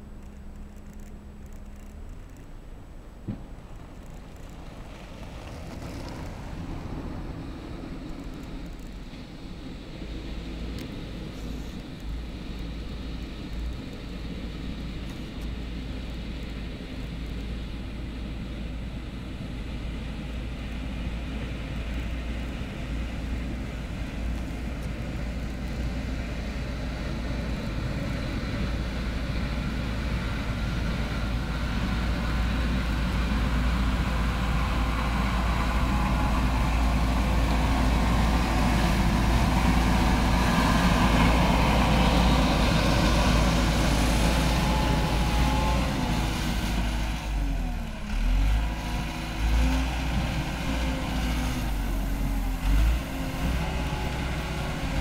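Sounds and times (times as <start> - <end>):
heavy vehicle engine rumbling: 0.0 - 55.0.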